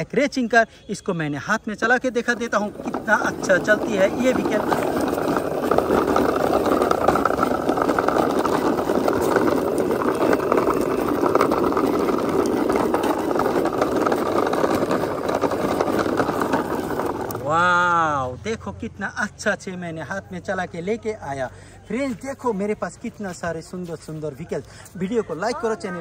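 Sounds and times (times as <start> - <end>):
toy car wheels rolling on concrete: 0.0 - 18.2, 19.3 - 26.0.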